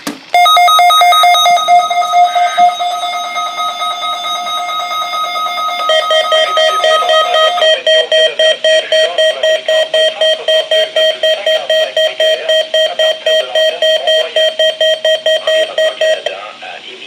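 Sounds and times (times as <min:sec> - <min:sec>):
steady warning tone: 0:00.4 - 0:16.4
weather radio alarm beeping: 0:00.4 - 0:16.4.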